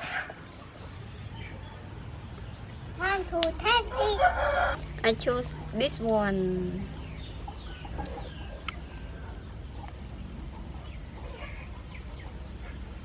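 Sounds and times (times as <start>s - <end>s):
chickens clucking: 0.0s - 13.0s
low steady hum: 0.3s - 13.0s.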